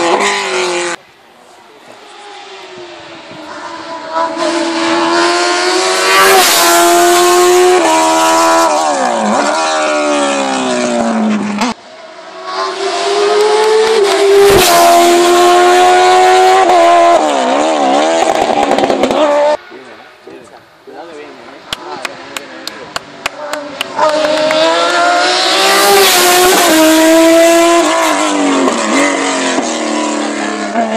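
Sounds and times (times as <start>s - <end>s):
race car engine revving: 0.0s - 1.0s, 1.9s - 20.0s, 21.4s - 30.9s.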